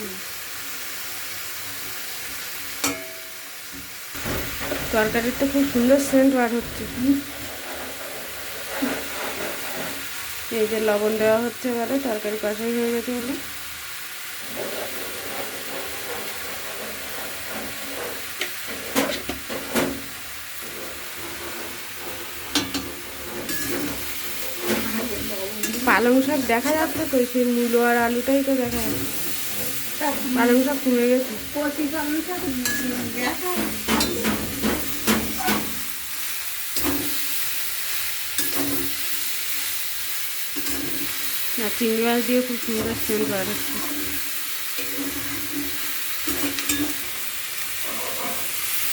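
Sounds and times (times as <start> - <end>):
vegetables sizzling in hot oil: 0.0 - 48.9
spatula scraping a pan: 4.2 - 48.9.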